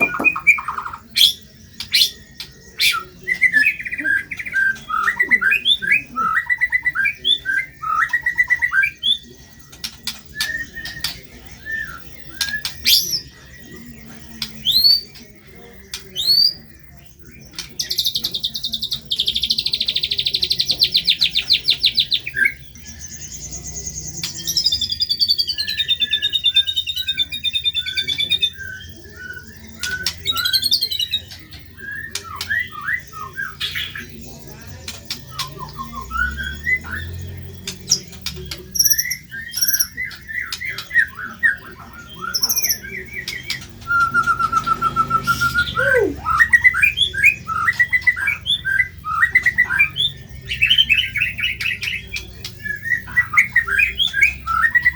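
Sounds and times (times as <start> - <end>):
bird singing whistles and trills: 0.0 - 54.9.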